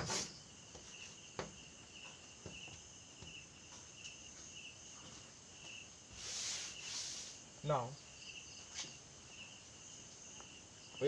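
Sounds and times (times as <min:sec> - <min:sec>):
faint insect chirping: 0:00.0 - 0:11.0.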